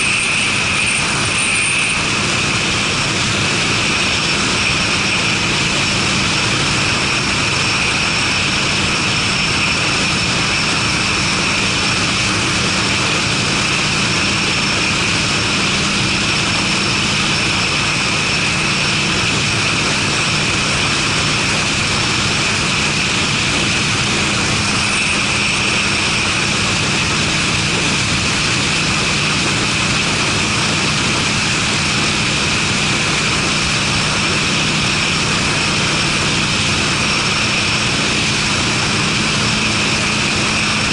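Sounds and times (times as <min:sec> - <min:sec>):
dense rush of noise: 0:00.0 - 0:40.9
motorcycle engine cruising: 0:00.0 - 0:40.9.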